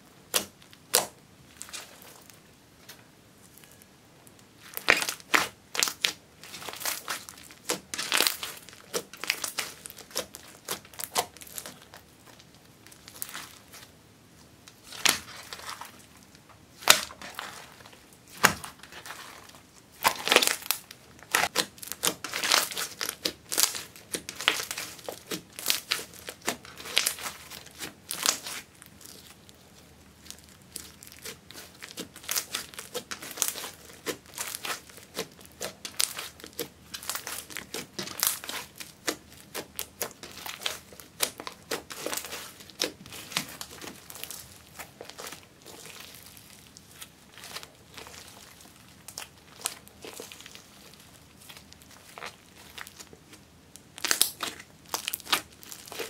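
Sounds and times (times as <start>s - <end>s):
hands squishing slime: 0.3s - 2.4s, 4.5s - 14.0s, 14.7s - 56.0s.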